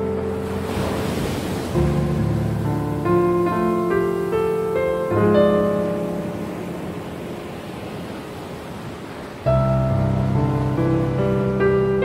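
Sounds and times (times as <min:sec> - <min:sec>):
solo piano: 0:00.0 - 0:08.3, 0:09.4 - 0:12.0
ocean surf hiss: 0:00.0 - 0:12.0.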